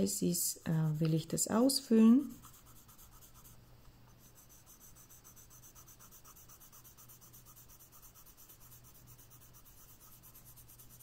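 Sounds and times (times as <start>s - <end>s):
colored pencil scratching paper: 0.0s - 1.5s, 2.2s - 11.0s.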